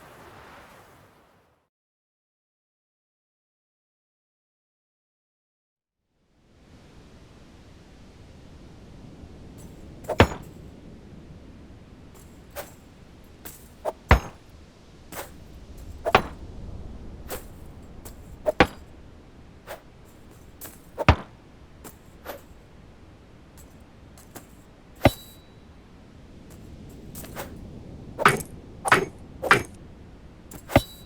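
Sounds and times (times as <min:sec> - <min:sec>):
low steady hiss: 0:00.0 - 0:01.6, 0:06.1 - 0:31.0.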